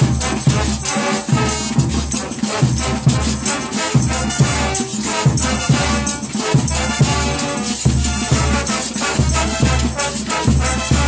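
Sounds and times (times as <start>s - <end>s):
brass band playing cumbia: 0.0s - 11.0s.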